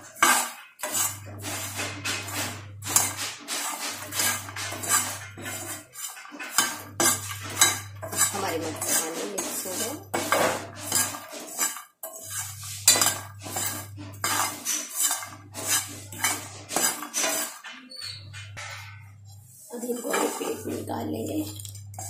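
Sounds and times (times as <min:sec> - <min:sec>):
puffed seeds rattling in a pan: 0:00.0 - 0:17.7, 0:19.6 - 0:22.0
spoon scraping a frying pan: 0:00.0 - 0:22.0.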